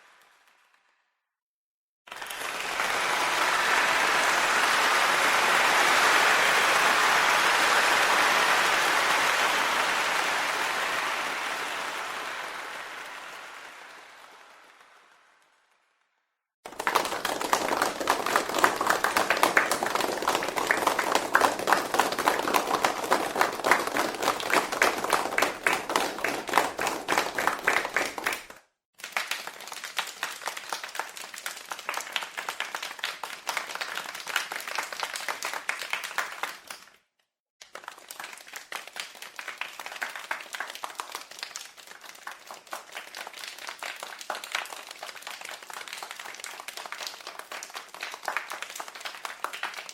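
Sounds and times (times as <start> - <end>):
hands clapping in applause: 0.0 - 0.9, 2.1 - 49.9.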